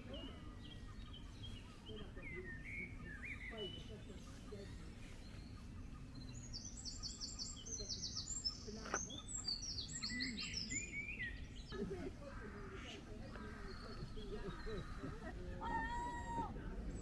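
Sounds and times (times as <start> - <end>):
songbirds trilling: 0.0 - 17.0.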